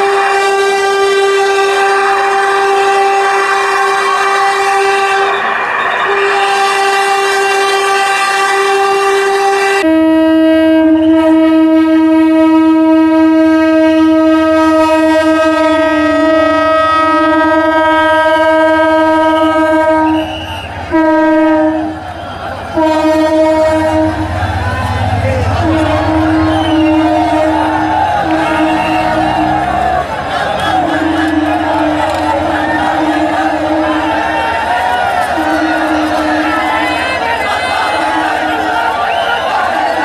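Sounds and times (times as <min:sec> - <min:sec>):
lower-pitched train horn: 0:00.0 - 0:40.0
train horn blasts: 0:00.0 - 0:40.0.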